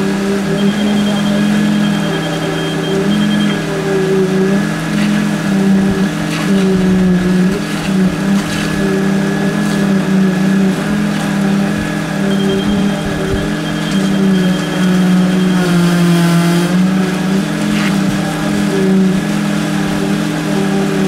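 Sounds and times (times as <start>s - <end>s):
thin high whine: 0.0s - 21.0s
truck engine running: 0.0s - 21.0s
wet concrete pouring: 0.0s - 21.0s.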